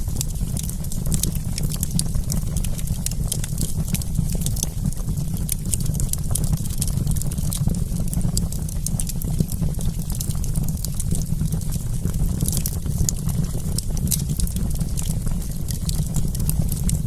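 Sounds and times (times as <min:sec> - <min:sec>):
campfire crackling and popping: 0:00.0 - 0:17.0
low rumble of burning: 0:00.0 - 0:17.0.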